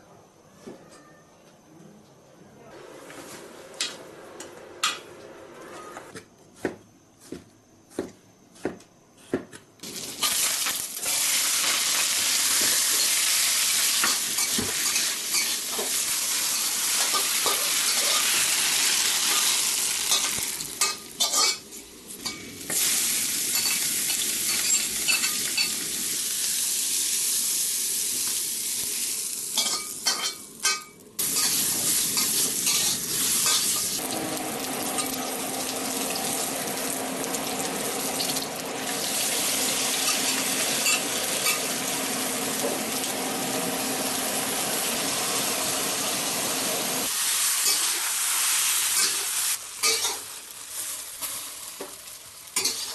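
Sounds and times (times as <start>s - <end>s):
food sizzling in a wok: 9.8s - 52.9s.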